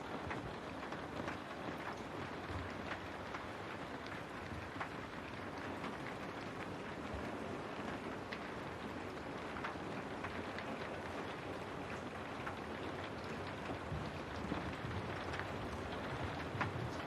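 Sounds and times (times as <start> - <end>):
raindrops tapping on window: 0.0 - 17.0
steady rain hiss: 0.0 - 17.0.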